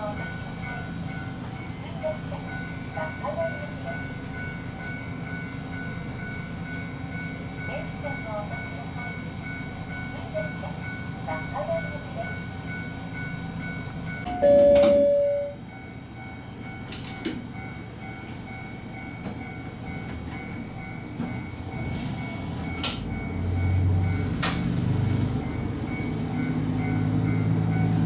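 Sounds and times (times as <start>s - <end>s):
railcar engine humming: 0.0s - 28.0s.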